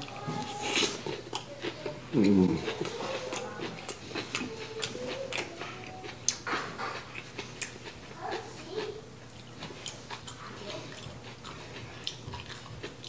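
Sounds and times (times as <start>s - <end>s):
chewing and lip smacks: 0.0s - 13.0s.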